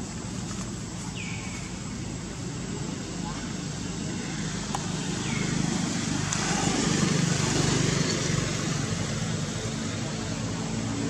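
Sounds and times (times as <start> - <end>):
road noise: 0.0 - 11.0
vehicle engine drone: 0.0 - 11.0.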